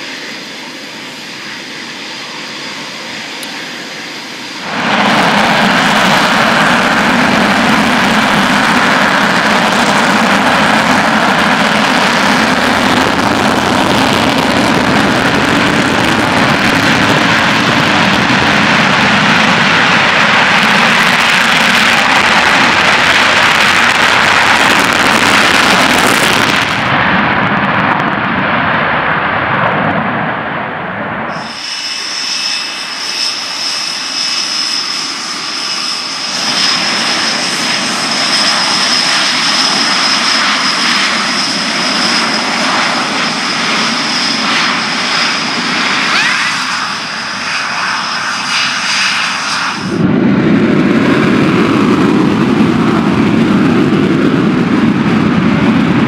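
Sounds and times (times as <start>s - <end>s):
deeper jet engine noise: 0.0s - 56.0s
jet engine high-pitched whine: 0.0s - 56.0s
jet takeoff with afterburners: 0.0s - 56.0s.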